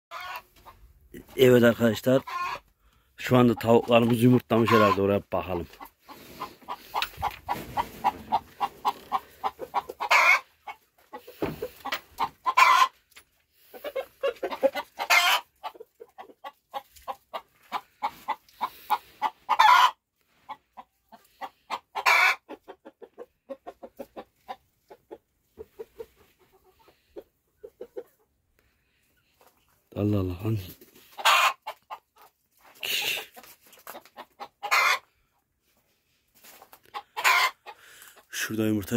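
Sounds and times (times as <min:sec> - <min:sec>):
chicken calls: 0:00.1 - 0:28.4, 0:30.2 - 0:35.2, 0:36.4 - 0:38.3
chickens clucking: 0:00.1 - 0:38.9.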